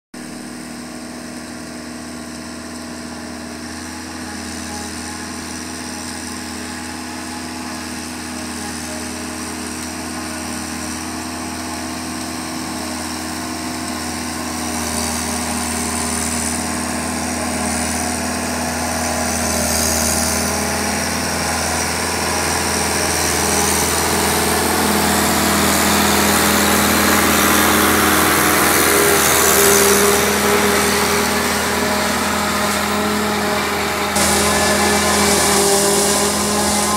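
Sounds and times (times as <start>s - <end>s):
tractor diesel engine running: 0.2s - 36.9s
maize chopper cutting maize: 0.8s - 36.9s.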